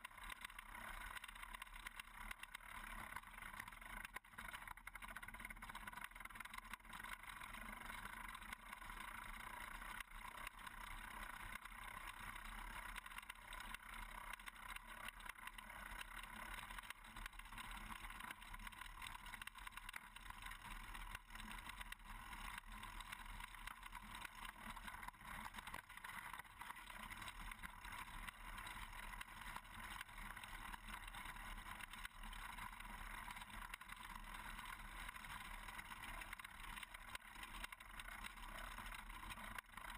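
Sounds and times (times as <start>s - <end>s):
clicks and rattles of wheels and frame: 0.0s - 39.9s
wheels rumbling over gravel: 0.0s - 39.9s.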